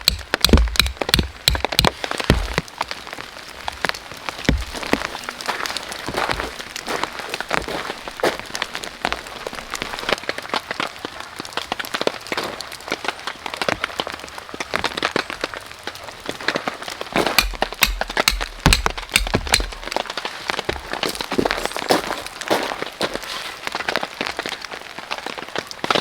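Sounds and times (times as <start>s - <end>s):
rain drops tapping: 0.0s - 26.0s.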